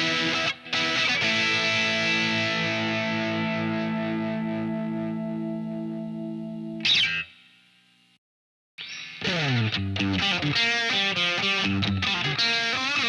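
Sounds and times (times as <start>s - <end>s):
distorted electric guitar chord: 0.0s - 7.6s, 9.2s - 13.0s.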